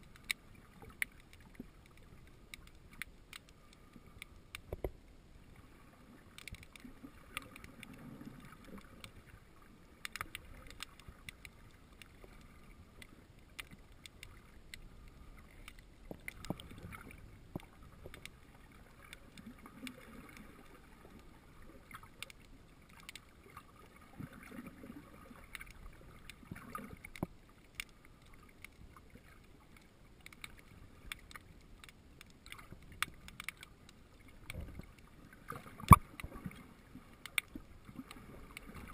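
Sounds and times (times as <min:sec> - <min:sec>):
muffled underwater water wash: 0:00.0 - 0:38.9
small underwater clicks: 0:00.0 - 0:38.9.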